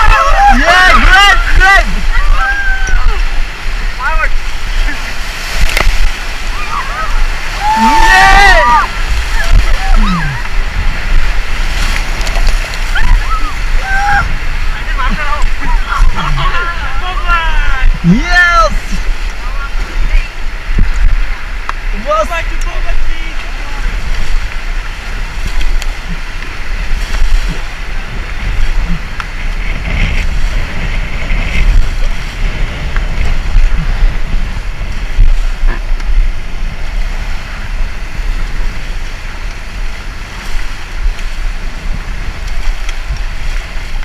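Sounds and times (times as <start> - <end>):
river water rushing: 0.0 - 44.0
wind buffeting microphone: 0.0 - 44.0.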